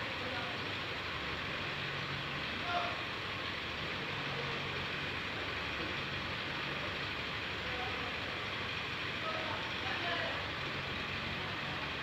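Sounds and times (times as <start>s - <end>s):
crane diesel engine droning: 0.0s - 12.0s.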